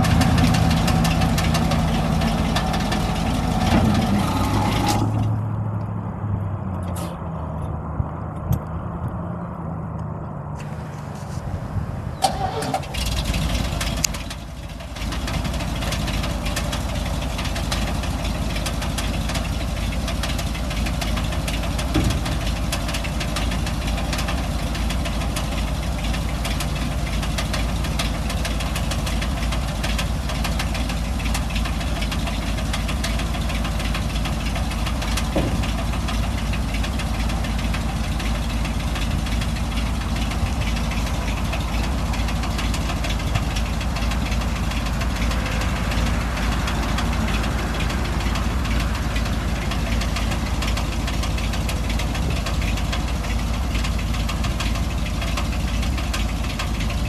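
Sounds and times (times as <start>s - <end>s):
truck engine idling: 0.0s - 6.2s, 10.6s - 57.0s.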